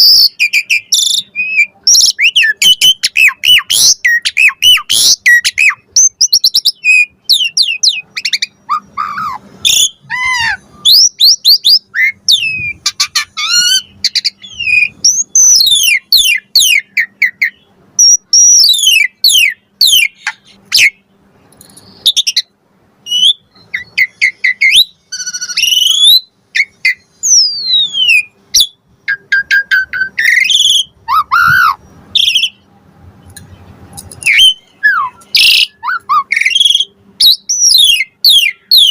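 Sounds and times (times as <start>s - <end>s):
starling singing: 0.0s - 21.1s, 21.7s - 32.7s, 33.3s - 38.9s.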